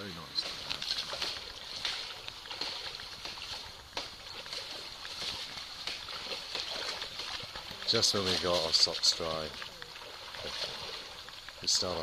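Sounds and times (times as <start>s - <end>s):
moving water hissing: 0.0s - 12.0s
water sloshing and splashing: 0.0s - 12.0s.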